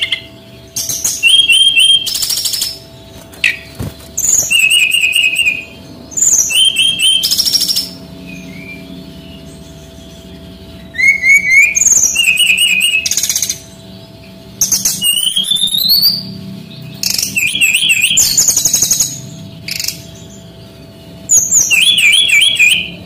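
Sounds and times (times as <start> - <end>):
songbird singing chirps and trills: 0.0 - 23.0.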